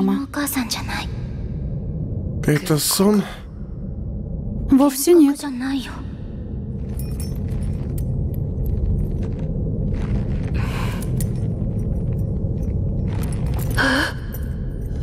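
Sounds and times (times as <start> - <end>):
low rumbling cave ambience: 0.0 - 15.0.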